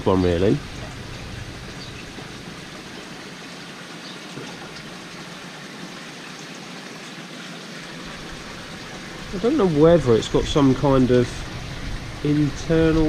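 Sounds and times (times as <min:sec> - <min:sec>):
aeration bubbling: 0:00.0 - 0:13.0
water trickling: 0:00.0 - 0:13.0.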